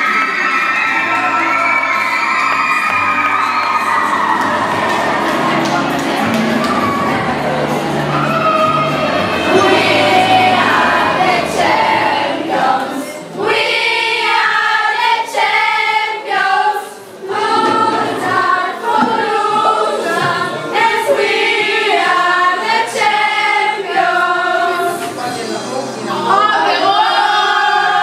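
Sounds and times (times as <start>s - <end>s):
girls singing unaccompanied: 3.7s - 28.0s.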